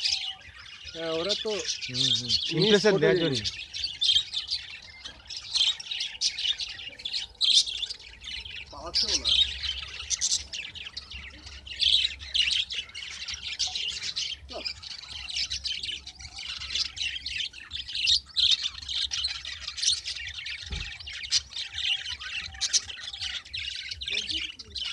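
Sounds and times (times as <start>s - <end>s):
budgerigars chirping and squawking: 0.0s - 24.9s.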